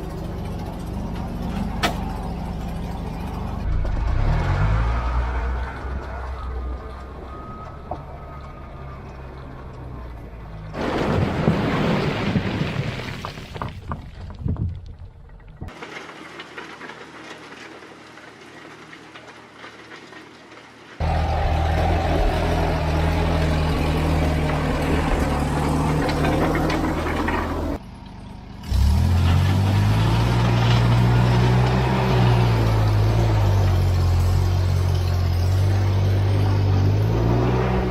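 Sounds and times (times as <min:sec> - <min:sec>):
tractor engine running: 0:00.0 - 0:11.3, 0:13.8 - 0:37.9.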